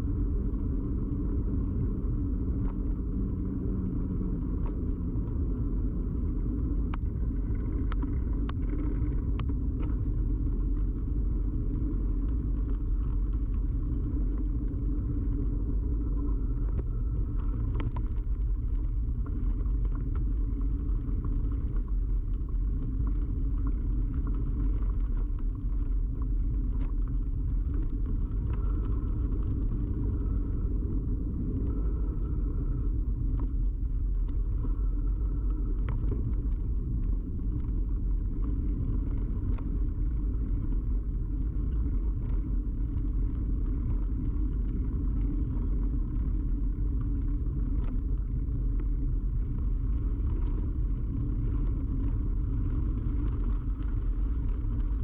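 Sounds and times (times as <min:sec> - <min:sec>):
bicycle riding rumble: 0:00.0 - 0:55.0.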